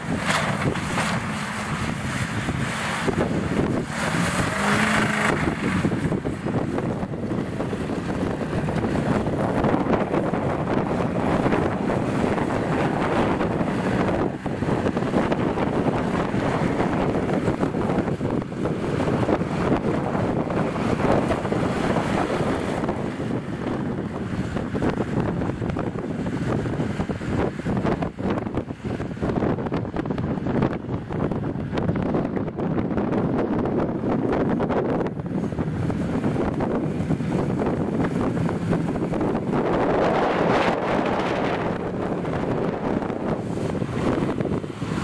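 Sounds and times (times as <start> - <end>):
off-road engines running: 0.0 - 45.0
wind buffeting microphone: 0.0 - 45.0.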